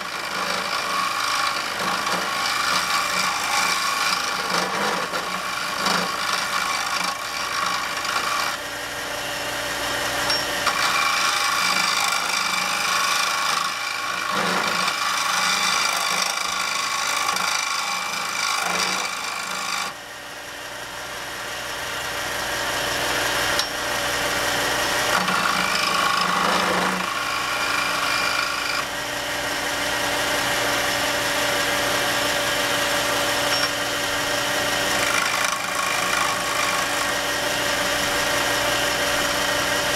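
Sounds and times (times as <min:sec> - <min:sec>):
chisel scraping wood on lathe: 0:00.0 - 0:08.6, 0:10.1 - 0:20.0, 0:24.1 - 0:39.8
lathe motor hum: 0:00.0 - 0:39.9.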